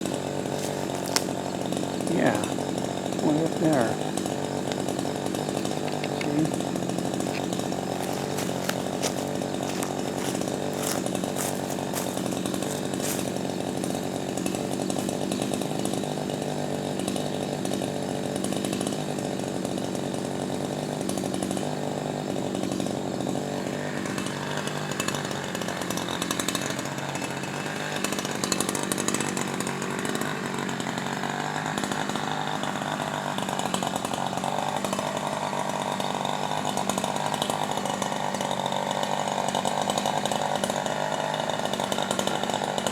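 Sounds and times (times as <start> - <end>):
chainsaw engine running: 0.0 - 42.9.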